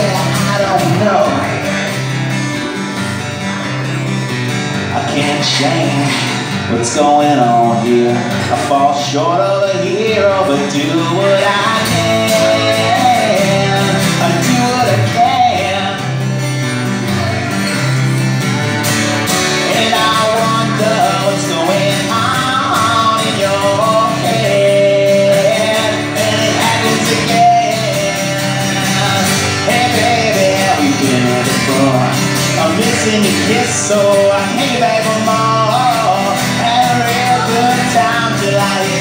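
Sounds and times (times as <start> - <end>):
man singing: 0.0 - 2.8, 4.8 - 16.4, 19.4 - 39.0
acoustic guitars strummed: 0.0 - 39.0.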